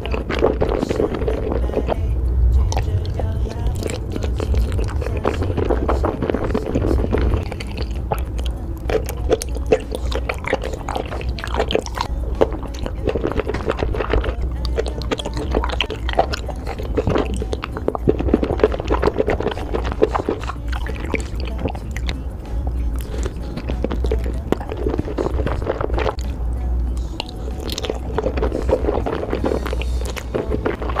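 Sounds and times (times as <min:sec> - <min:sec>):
chewing with wet mouth clicks: 0:00.0 - 0:31.0.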